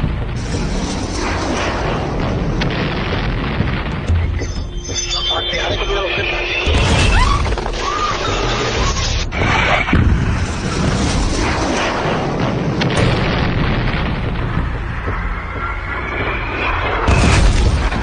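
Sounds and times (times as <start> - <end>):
explosion and fire roaring: 0.0 - 5.2, 6.6 - 18.0.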